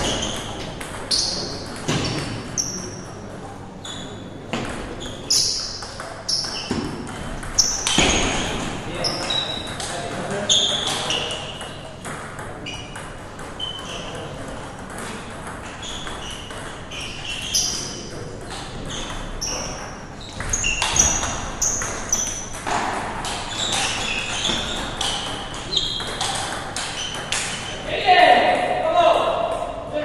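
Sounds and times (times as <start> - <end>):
table tennis balls clicking: 0.0 - 3.2, 4.5 - 27.9
shoes squeaking on floor: 0.0 - 12.0, 12.6 - 28.0.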